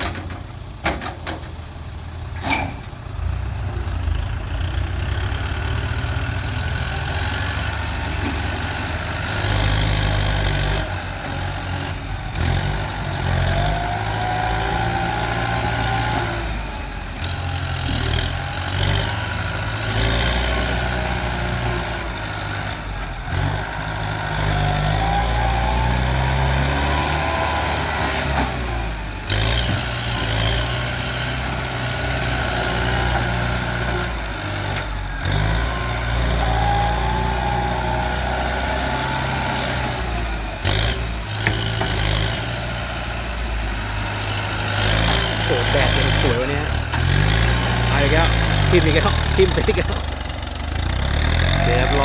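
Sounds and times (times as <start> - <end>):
tractor diesel engine working: 0.0 - 52.0.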